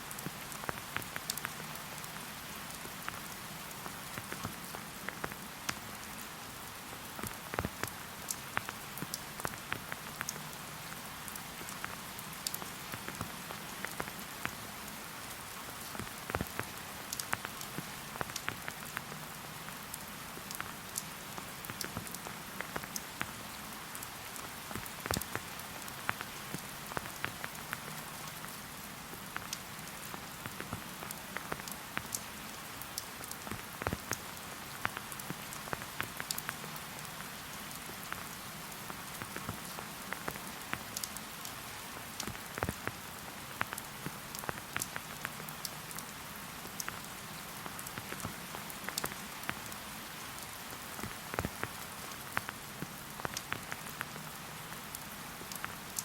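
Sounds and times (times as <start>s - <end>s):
raindrops ticking close by: 0.0s - 56.0s
steady rain in a forest: 0.0s - 56.0s.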